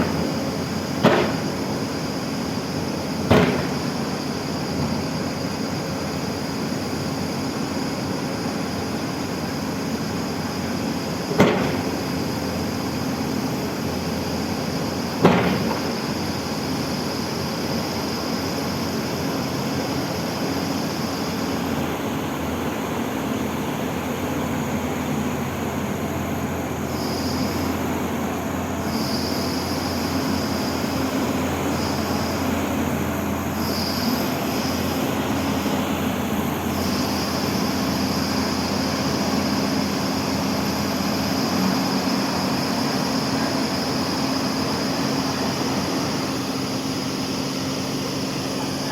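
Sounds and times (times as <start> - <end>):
excavator engine drone: 0.0 - 48.9
high-pitched whine: 0.0 - 48.9.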